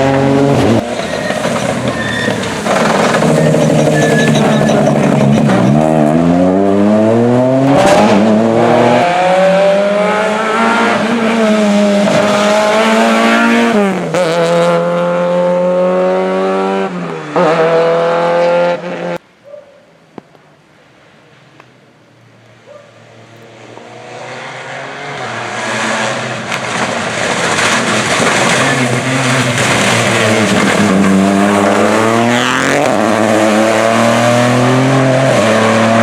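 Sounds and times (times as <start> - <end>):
rally car engine at full throttle: 0.0 - 19.2, 23.0 - 36.0.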